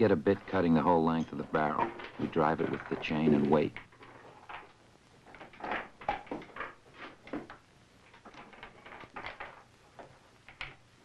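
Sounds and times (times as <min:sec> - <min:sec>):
faint scrapes and knocks: 0:00.3 - 0:10.7.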